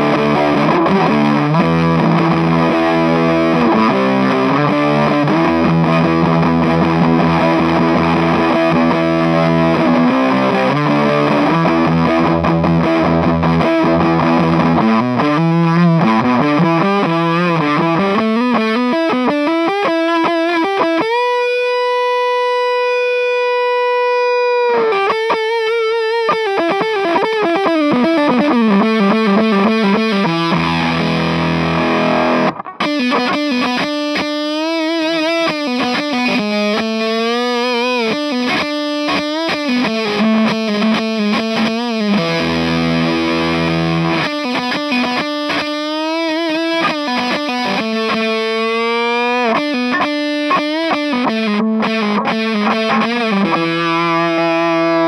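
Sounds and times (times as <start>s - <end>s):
fuzz distorted electric guitar: 0.0s - 55.0s.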